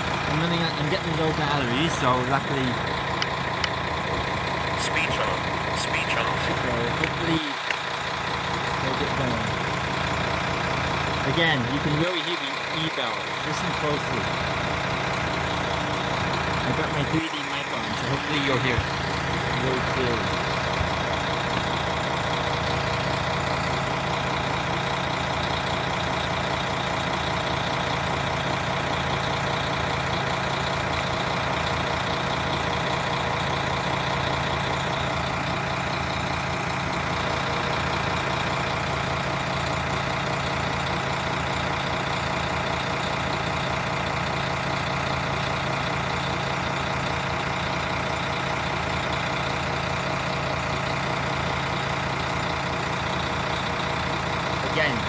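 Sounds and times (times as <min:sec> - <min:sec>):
railcar diesel engines idling: 0:00.0 - 0:55.0.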